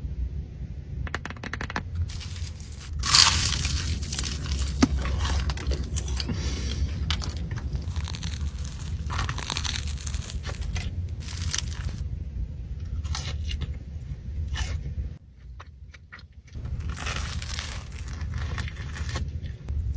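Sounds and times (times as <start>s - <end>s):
low steady hum: 0.0s - 19.9s
pastry crackling and crunching: 1.4s - 12.1s, 12.8s - 19.9s.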